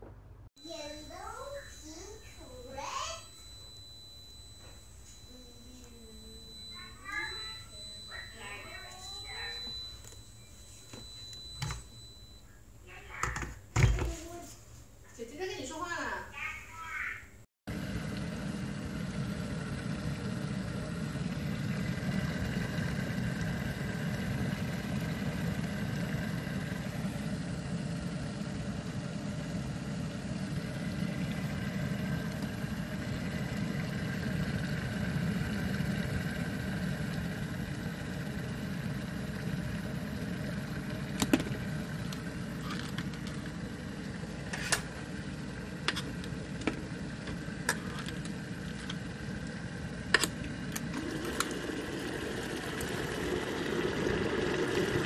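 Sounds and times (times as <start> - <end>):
electric kettle heating water: 0.6 - 14.4, 15.2 - 17.0, 17.7 - 55.0.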